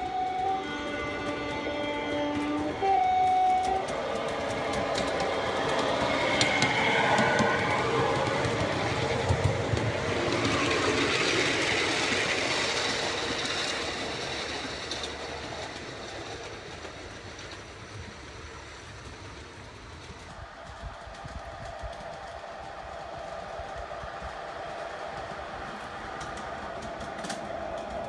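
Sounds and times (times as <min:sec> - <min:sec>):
miniature locomotive passing: 0:00.0 - 0:28.0.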